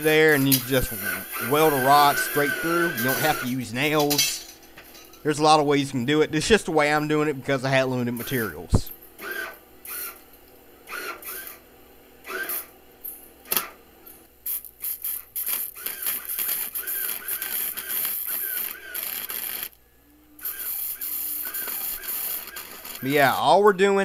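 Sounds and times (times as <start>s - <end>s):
arc welder crackling: 0.0s - 11.6s, 12.2s - 12.8s, 13.4s - 24.0s.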